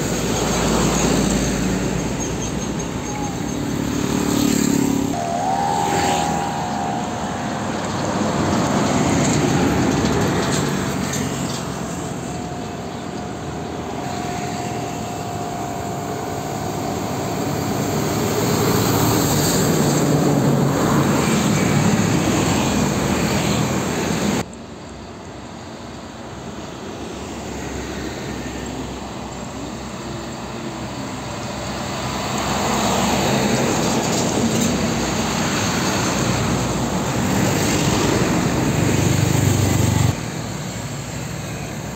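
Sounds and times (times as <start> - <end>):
diesel trucks passing: 0.0 - 41.9.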